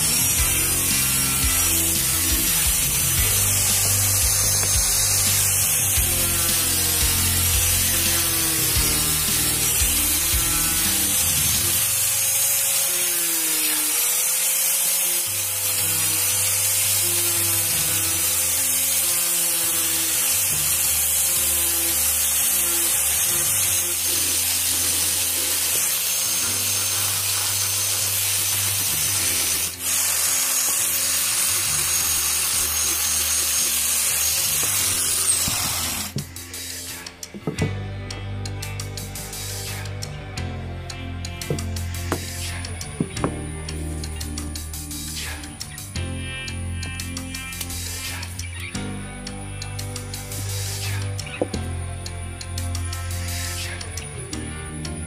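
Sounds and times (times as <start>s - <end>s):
angle grinder sanding wood: 0.0s - 37.7s, 39.0s - 40.2s, 41.0s - 46.0s, 49.6s - 55.0s.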